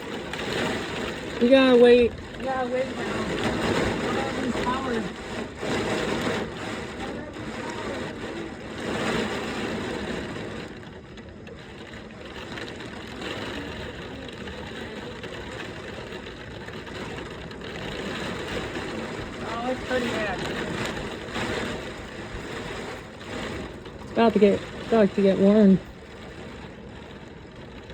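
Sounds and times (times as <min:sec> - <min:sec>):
heavy rain: 0:00.0 - 0:27.9
wind: 0:00.0 - 0:27.9.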